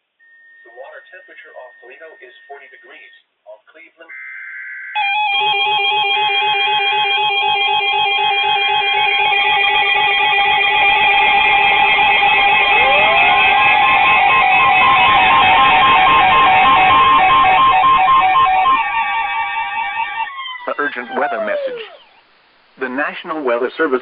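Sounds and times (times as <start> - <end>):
data tone burst: 0.2 - 3.1, 4.1 - 22.6
weather alert radio alarms: 0.4 - 3.2, 4.1 - 22.5.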